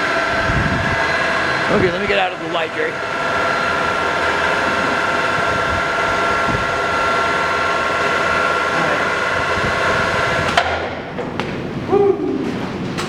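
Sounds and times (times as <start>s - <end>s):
lathe whining: 0.0s - 11.1s.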